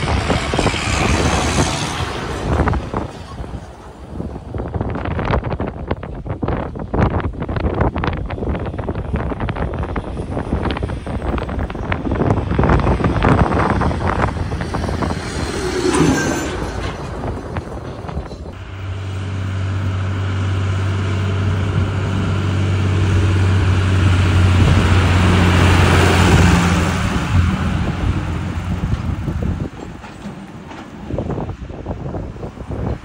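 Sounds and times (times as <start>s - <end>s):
gusty rumbling: 0.0s - 33.0s
tractor diesel engine: 0.0s - 33.0s.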